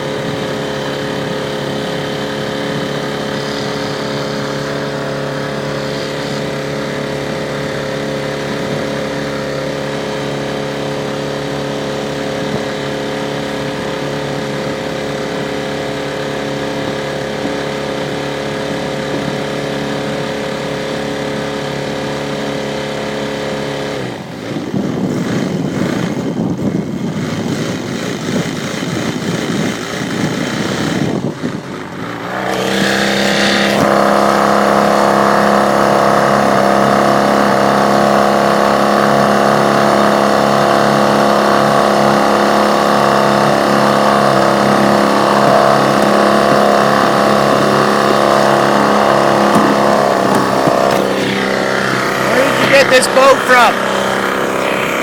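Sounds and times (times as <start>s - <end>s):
motorboat engine running: 0.0s - 55.0s.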